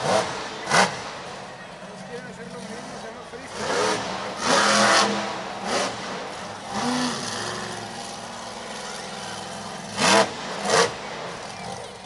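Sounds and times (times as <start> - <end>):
distant monster truck engine revving: 0.0 - 12.0.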